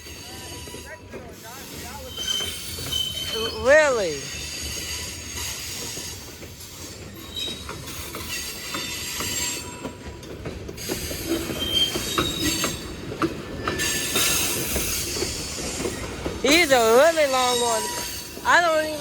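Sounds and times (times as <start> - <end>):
freight train cars rumbling: 0.0 - 19.0
wheels clicking over rail joints: 0.0 - 19.0
high wheel squeal: 1.8 - 9.8, 10.8 - 13.0, 13.6 - 19.0.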